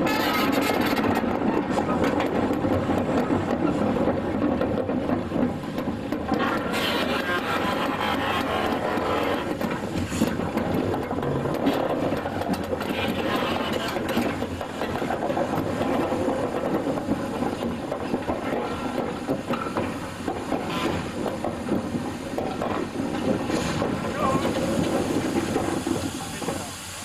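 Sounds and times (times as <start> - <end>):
steam locomotive working: 0.0 - 27.0.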